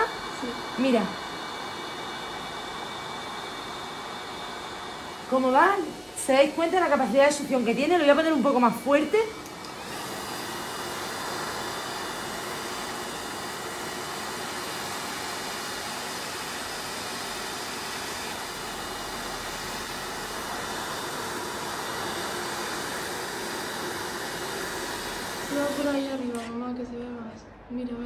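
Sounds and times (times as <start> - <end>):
vacuum cleaner running: 0.0 - 26.8.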